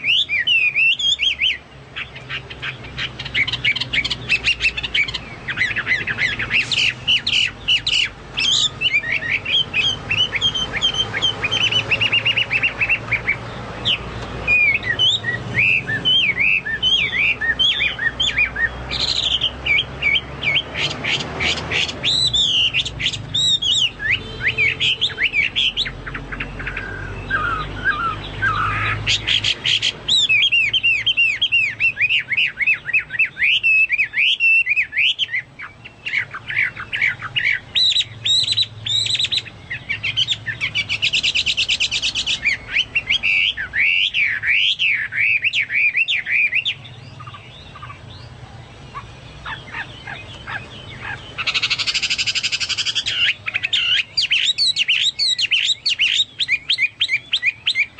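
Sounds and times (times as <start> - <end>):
bird singing whistles and trills: 0.0 - 57.9.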